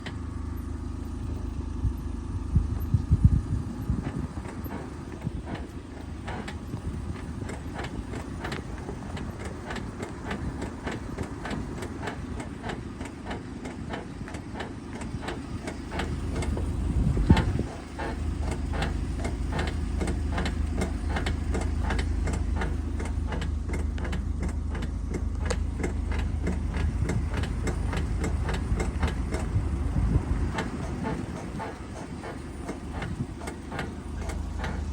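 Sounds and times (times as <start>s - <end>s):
car engine rumble: 0.0s - 34.9s
car ticking: 0.0s - 34.9s.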